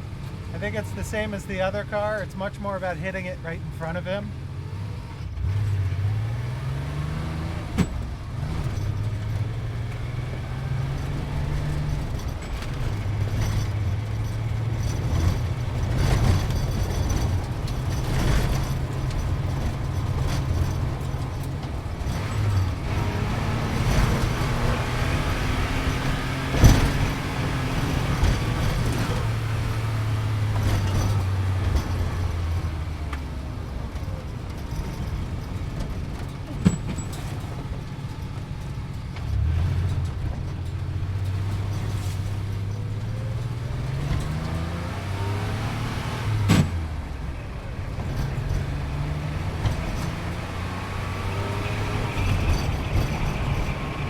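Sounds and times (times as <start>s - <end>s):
sports car engine shifting gears: 0.0s - 54.0s.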